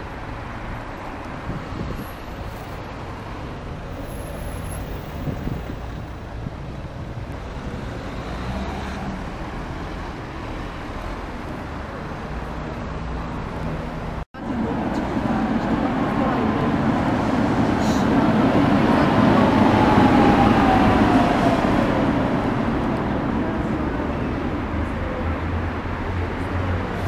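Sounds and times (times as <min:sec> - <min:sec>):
city road traffic: 0:00.0 - 0:27.0.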